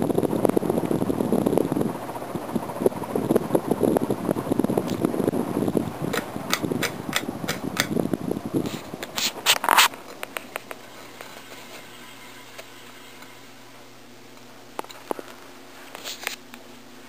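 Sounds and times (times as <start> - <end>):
fan air buffeting microphone: 0.0 - 17.0
low steady hum: 0.0 - 17.0.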